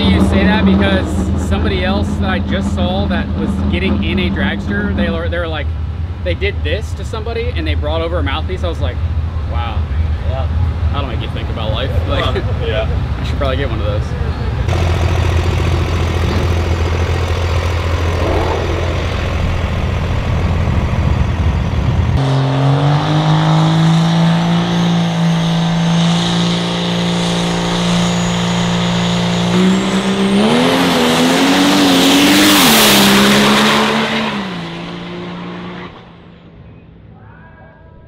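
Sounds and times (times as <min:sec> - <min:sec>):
diesel truck engine rumbling and revving: 0:00.0 - 0:36.4.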